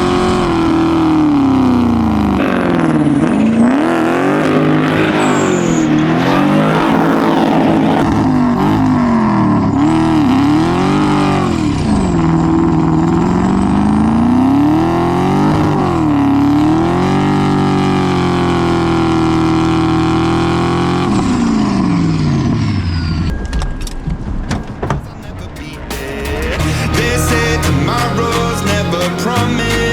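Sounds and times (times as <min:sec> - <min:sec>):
car engine revving: 0:00.0 - 0:23.2, 0:25.1 - 0:29.9.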